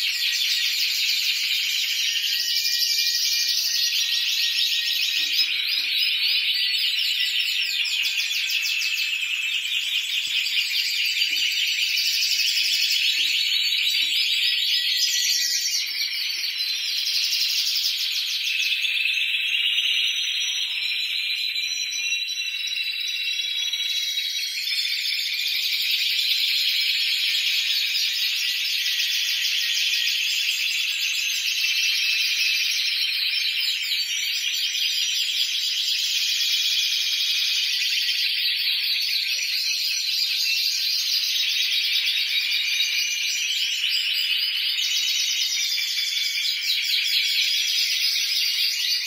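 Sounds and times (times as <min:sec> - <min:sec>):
canaries trilling in chorus: 0:00.0 - 0:49.0.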